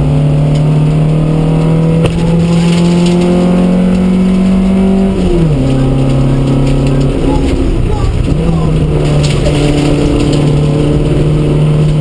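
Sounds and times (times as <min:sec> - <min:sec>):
car engine pulling hard: 0:00.0 - 0:12.0.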